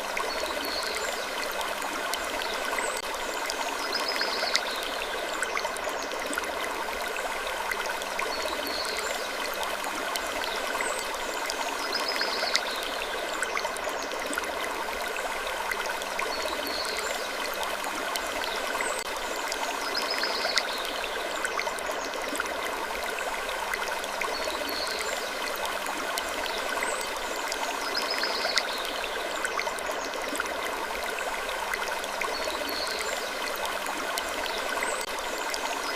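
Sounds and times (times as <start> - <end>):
rushing flowing water: 0.0 - 35.9.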